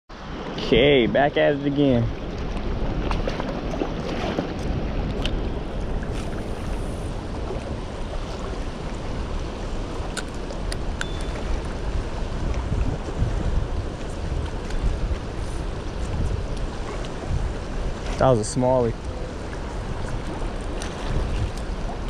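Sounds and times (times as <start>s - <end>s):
river water rushing: 0.1s - 22.0s
wind buffeting microphone: 0.2s - 22.0s.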